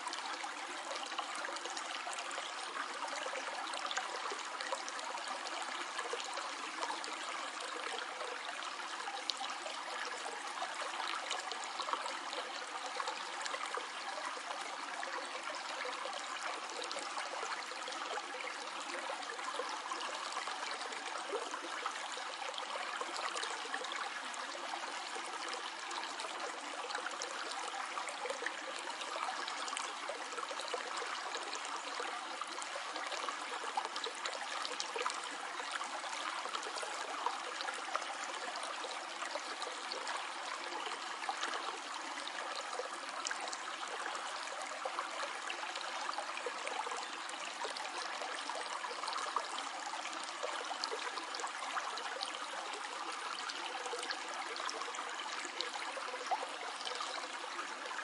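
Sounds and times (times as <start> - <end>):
small stream trickling: 0.0 - 58.0.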